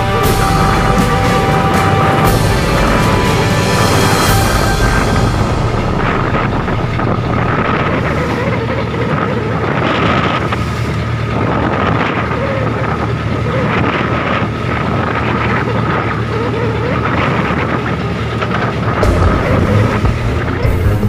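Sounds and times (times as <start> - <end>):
boat engine running: 0.0 - 21.0
waves splashing against hull: 0.0 - 21.0
wind buffeting microphone: 0.0 - 21.0.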